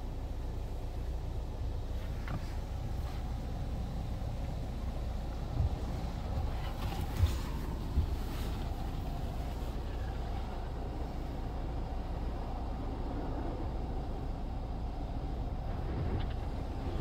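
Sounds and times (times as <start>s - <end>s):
car wash machinery rumble: 0.0s - 17.0s.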